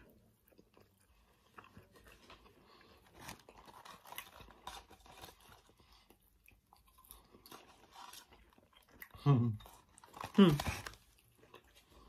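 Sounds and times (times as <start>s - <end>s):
chewing sandwich: 0.0s - 12.0s.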